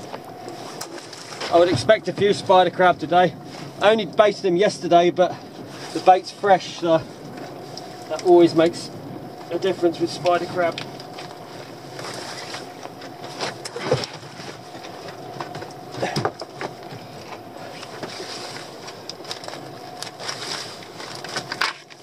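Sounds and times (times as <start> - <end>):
steady hum: 0.0 - 22.0
wind: 0.0 - 22.0.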